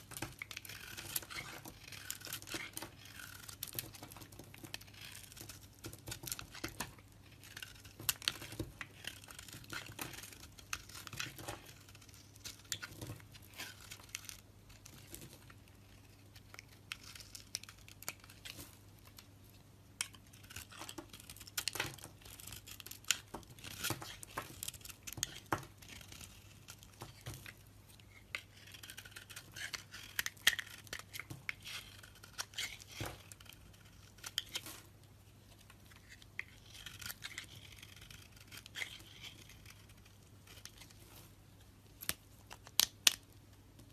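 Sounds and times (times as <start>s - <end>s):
knife scraping soap: 0.1s - 18.6s, 20.0s - 34.8s, 35.9s - 41.0s.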